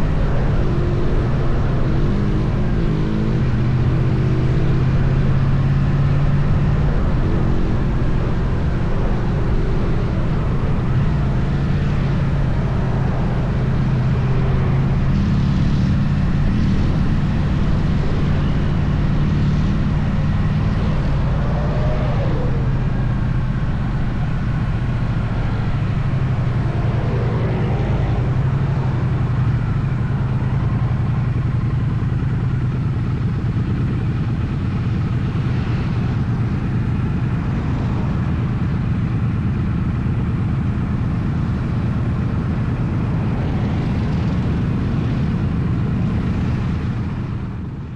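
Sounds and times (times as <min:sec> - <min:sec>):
motorcycle engine droning: 0:00.0 - 0:47.9
road and wind noise: 0:00.0 - 0:47.9.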